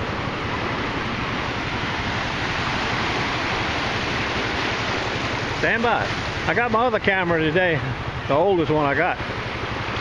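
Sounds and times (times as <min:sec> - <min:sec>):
small waves washing on sand: 0:00.0 - 0:10.0.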